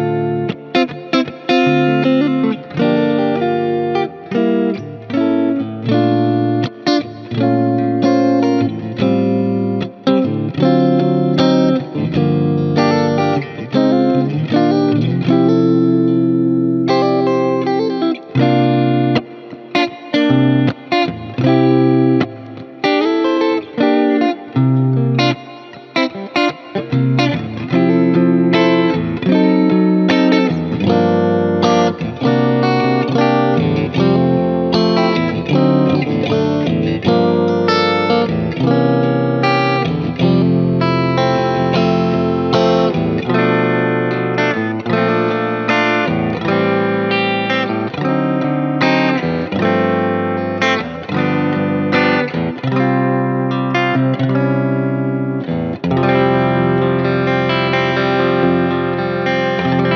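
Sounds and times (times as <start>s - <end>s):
backing track music: 0.0s - 59.9s
electric guitar with delay: 0.0s - 59.9s.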